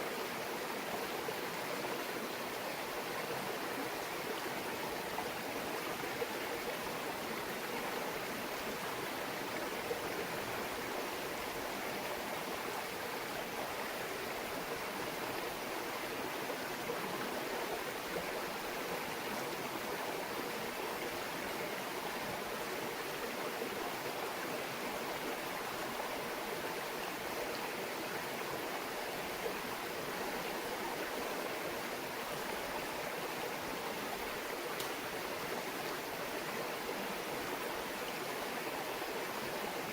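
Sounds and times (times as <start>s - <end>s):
stream babbling over rocks: 0.1s - 39.9s.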